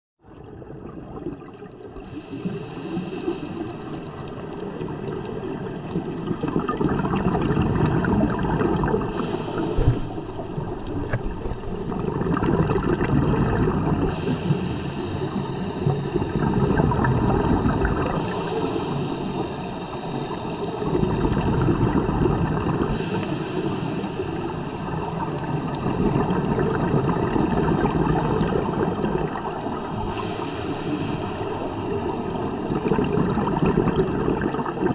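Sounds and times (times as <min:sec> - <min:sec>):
muffled underwater water rushing: 0:00.2 - 0:34.9
scuba regulator bubbles hissing: 0:00.8 - 0:34.9.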